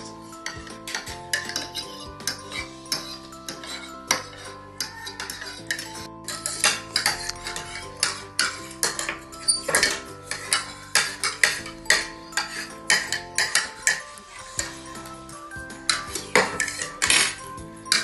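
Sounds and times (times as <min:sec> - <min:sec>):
metal spoons clinking on plates: 0:00.0 - 0:14.8, 0:15.9 - 0:18.0
background music: 0:00.0 - 0:18.0.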